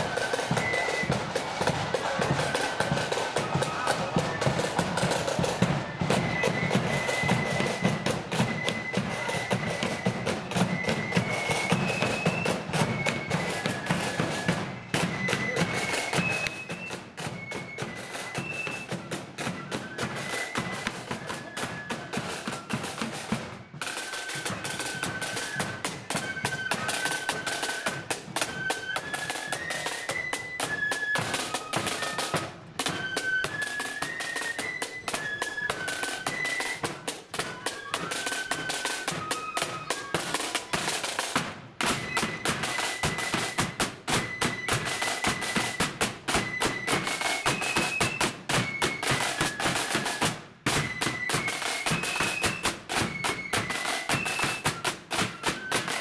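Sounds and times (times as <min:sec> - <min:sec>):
flutes playing melody: 0:00.0 - 0:56.0
snare drum rolls: 0:00.0 - 0:56.0.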